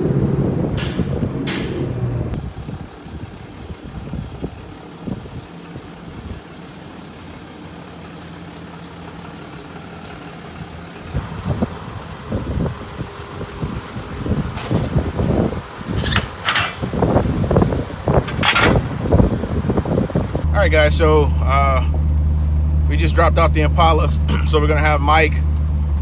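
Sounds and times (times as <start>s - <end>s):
car engine idling: 0.0s - 26.0s
engine knocking and rumbling: 0.0s - 26.0s.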